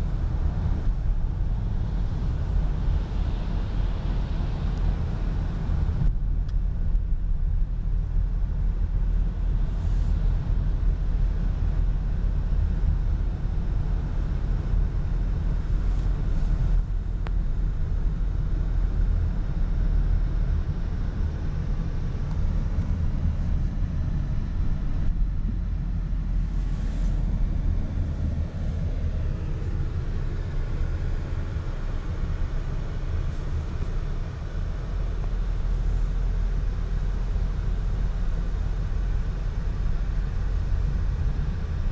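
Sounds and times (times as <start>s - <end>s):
road and engine rumble inside car: 0.0s - 41.9s.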